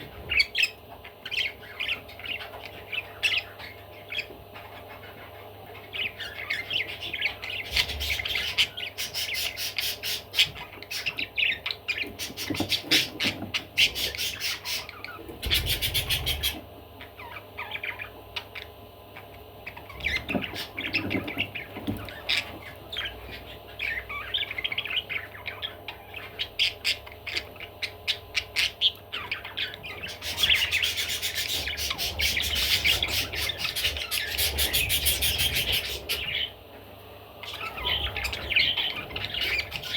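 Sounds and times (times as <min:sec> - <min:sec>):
budgerigar chattering and warbling: 0:00.1 - 0:36.6, 0:37.4 - 0:39.9.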